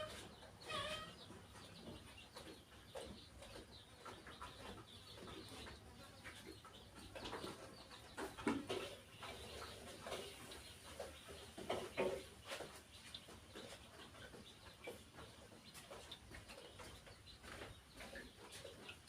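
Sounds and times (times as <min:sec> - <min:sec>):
bird calls: 0:00.0 - 0:19.0.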